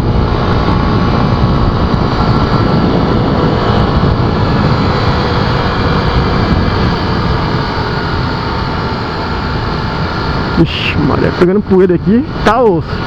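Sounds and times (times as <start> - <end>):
wind rush over microphone: 0.0 - 13.0.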